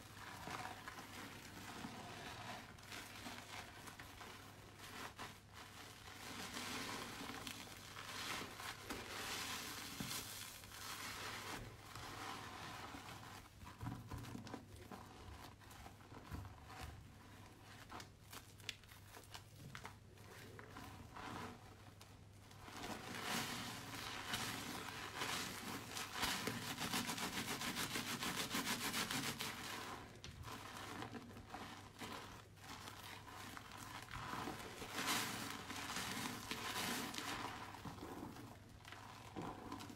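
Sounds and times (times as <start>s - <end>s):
wet soap squelching and crackling: 0.0s - 39.9s.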